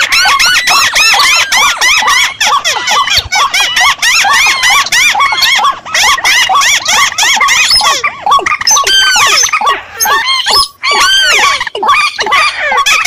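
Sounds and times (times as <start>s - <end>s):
squeaky bird calls: 0.0s - 13.0s.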